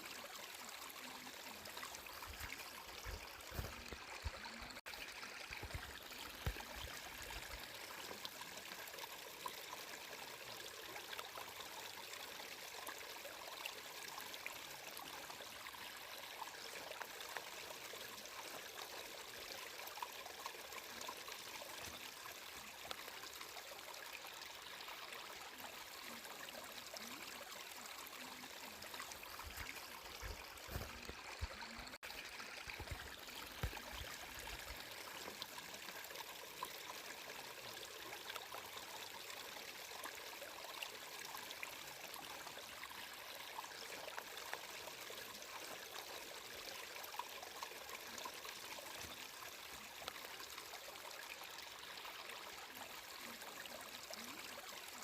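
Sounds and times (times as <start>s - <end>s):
water flowing: 0.0s - 55.0s.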